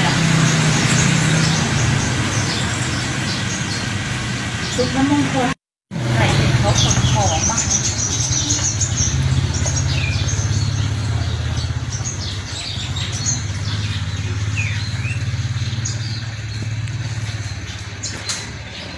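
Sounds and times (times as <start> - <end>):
low engine hum: 0.0 - 18.9
small birds chirping: 0.0 - 18.9.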